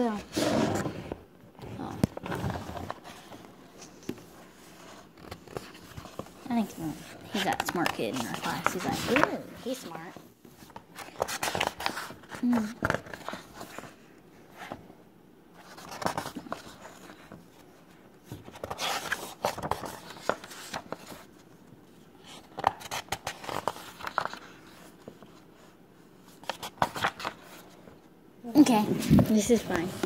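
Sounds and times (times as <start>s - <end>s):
book pages rustling: 0.0s - 14.9s, 15.5s - 30.0s.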